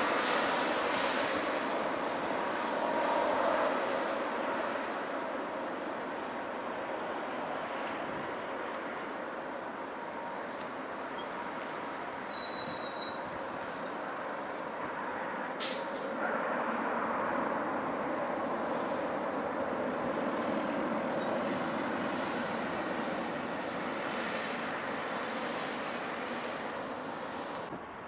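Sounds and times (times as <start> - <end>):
jet engines at takeoff thrust: 0.0 - 12.4, 14.0 - 28.0.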